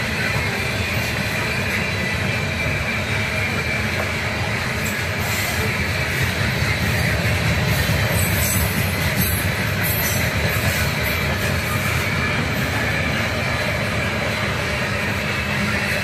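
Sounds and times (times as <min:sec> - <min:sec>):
train wheels rolling on rails: 0:00.0 - 0:16.0.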